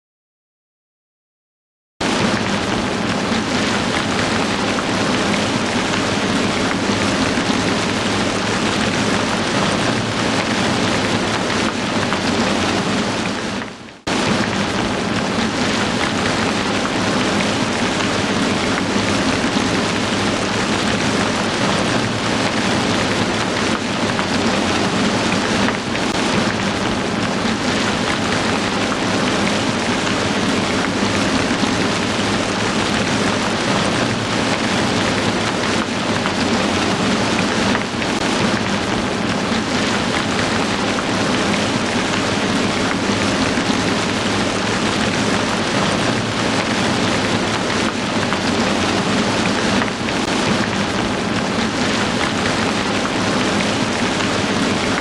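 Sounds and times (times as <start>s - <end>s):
heavy rain falling: 2.0s - 55.0s.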